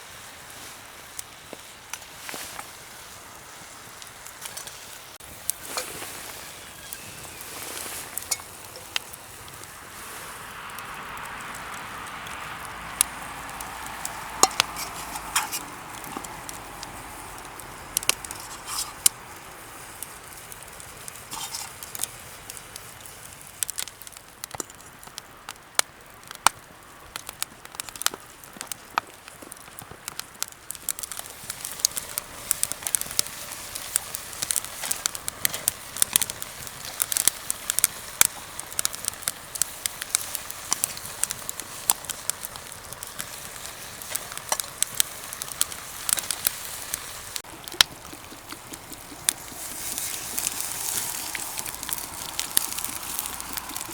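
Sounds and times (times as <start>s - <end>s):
campfire crackling: 0.0s - 53.9s
fire popping: 0.0s - 53.9s.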